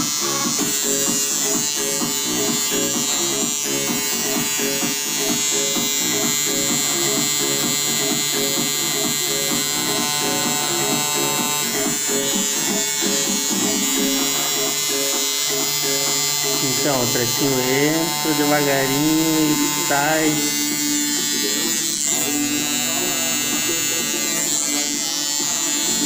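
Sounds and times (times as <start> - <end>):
tattoo machine buzzing: 0.0 - 26.0.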